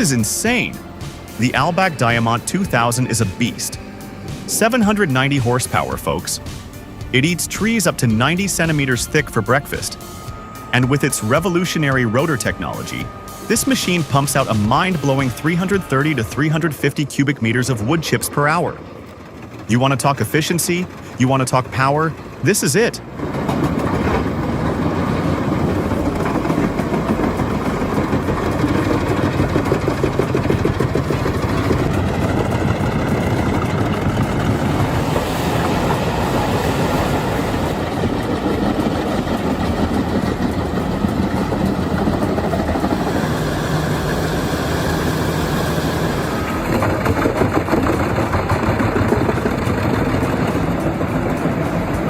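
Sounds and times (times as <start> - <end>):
wood chipper running: 0.0 - 52.0.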